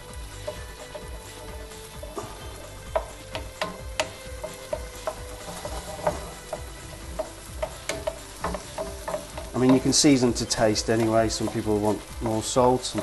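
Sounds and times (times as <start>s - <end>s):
vegetables sizzling in oil: 0.0s - 13.0s
wooden spatula knocking on pan: 0.4s - 12.3s.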